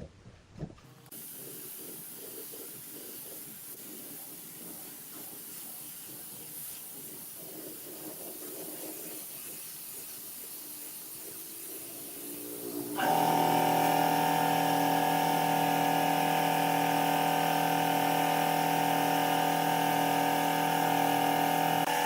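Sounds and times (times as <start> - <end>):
compressed air hissing: 1.1 - 22.0.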